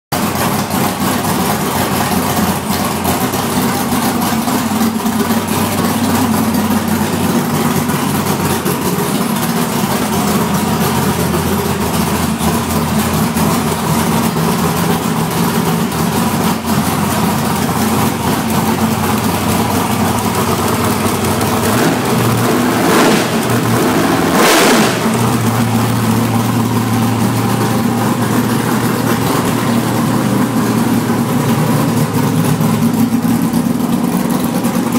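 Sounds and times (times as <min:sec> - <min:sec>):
drag-race engine idling: 0:00.1 - 0:34.9
engine revving: 0:04.0 - 0:34.9.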